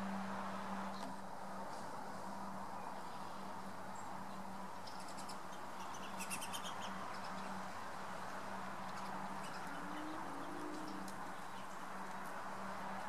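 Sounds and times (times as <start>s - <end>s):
songbirds chipping and twittering: 0.9s - 13.0s.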